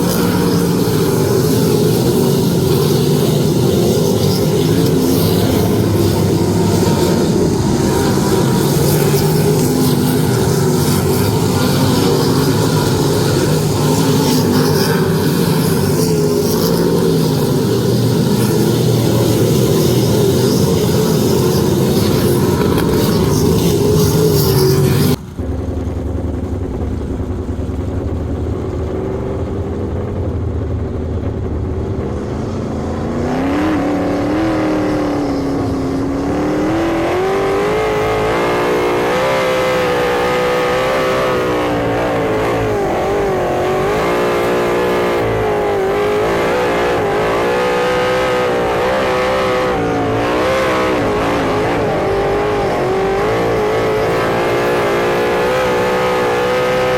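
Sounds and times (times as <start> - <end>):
racing car engine revving: 0.0 - 56.9.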